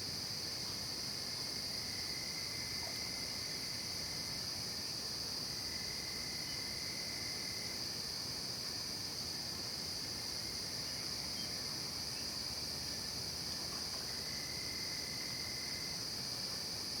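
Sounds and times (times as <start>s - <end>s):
insects calling: 0.0s - 17.0s.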